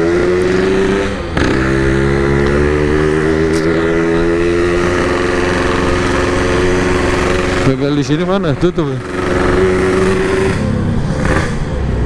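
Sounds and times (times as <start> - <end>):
two-stroke motorcycle engine running: 0.0 - 11.8.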